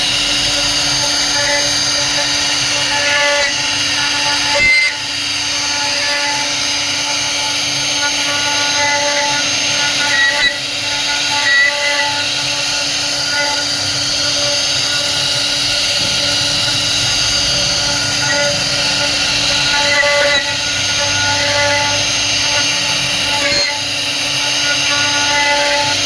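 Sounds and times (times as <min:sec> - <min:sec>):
router spindle whining cutting wood: 0:00.0 - 0:26.0.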